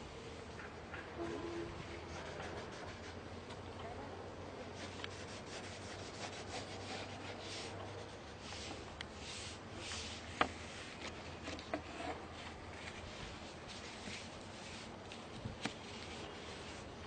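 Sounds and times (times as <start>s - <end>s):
paintbrush scrubbing on canvas: 1.8s - 3.5s, 4.7s - 17.0s.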